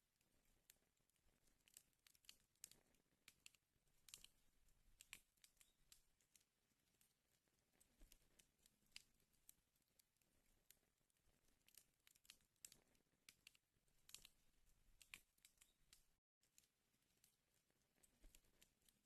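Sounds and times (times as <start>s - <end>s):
wood fire crackling: 0.2s - 19.0s.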